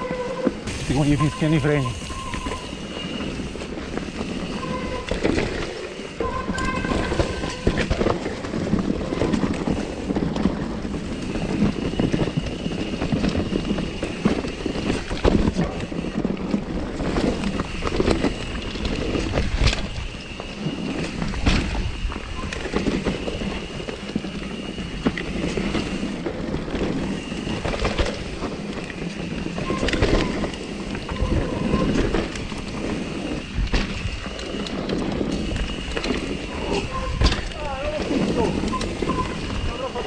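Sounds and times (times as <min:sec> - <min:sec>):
bike disc brakes squealing: 0:00.0 - 0:26.2, 0:26.9 - 0:40.0
tyres rumbling on rough trail: 0:00.0 - 0:40.0.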